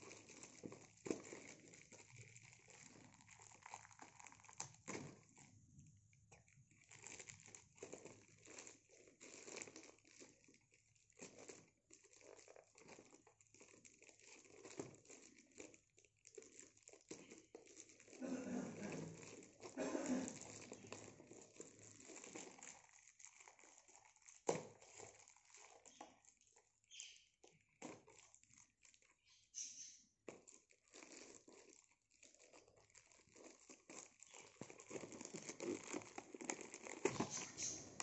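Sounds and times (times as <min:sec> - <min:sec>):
plastic mailer crinkling: 0:00.0 - 0:05.6, 0:06.3 - 0:38.0
plastic tearing: 0:00.0 - 0:05.6, 0:06.3 - 0:38.0.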